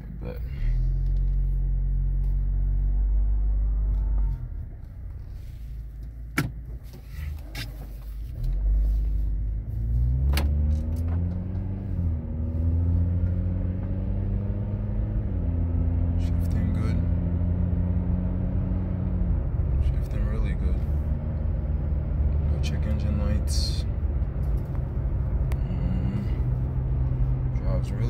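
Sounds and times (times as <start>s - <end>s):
car engine accelerating and shifting: 0.0s - 28.0s.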